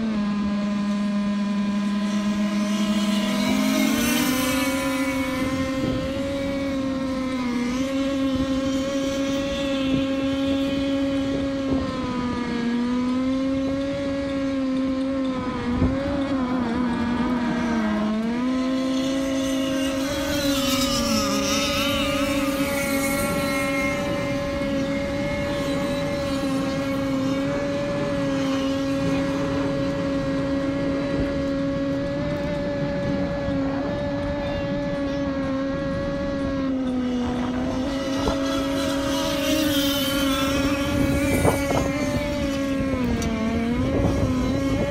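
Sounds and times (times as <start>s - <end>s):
powerboat engine running hard: 0.0s - 44.9s.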